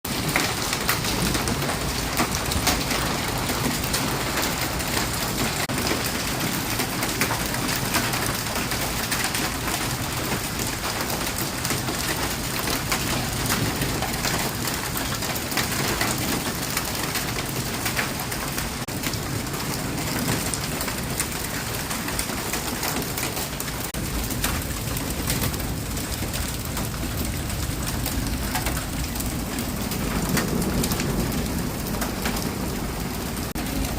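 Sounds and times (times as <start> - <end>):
hail pelting down: 0.1 - 33.9.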